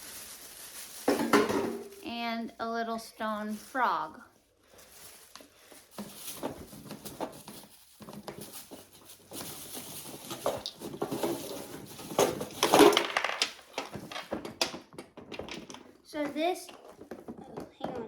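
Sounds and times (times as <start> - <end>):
small objects rustling and knocking: 0.0 - 18.0.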